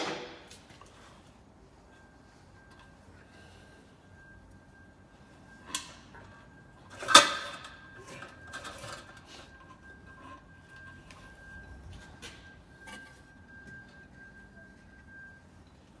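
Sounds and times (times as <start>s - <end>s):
faint steady high tone: 0.6s - 16.0s.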